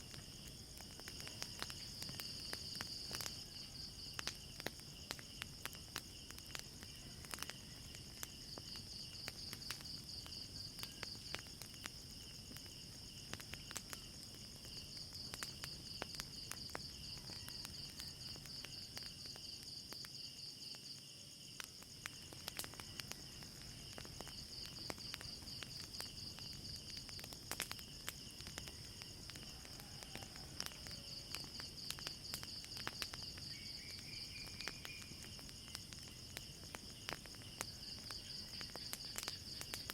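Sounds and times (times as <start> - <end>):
crickets chirping: 0.0 - 39.9
wood fire crackling: 0.0 - 39.9.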